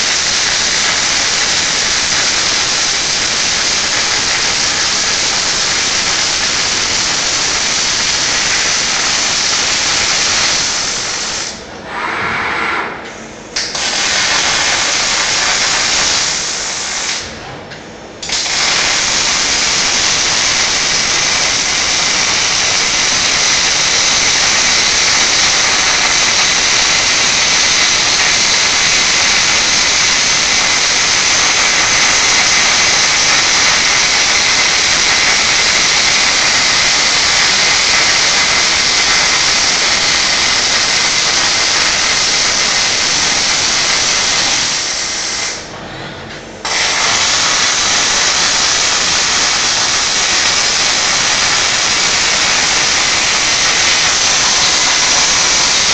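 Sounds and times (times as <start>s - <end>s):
welding arc crackling hiss: 0.0s - 11.7s, 13.6s - 17.3s, 18.2s - 45.7s, 46.6s - 55.9s.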